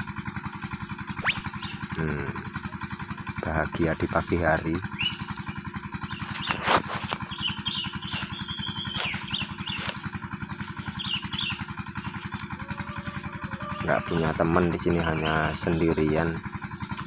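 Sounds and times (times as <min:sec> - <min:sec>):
birds chirping: 0:00.0 - 0:17.0
small engine puttering: 0:00.0 - 0:17.0.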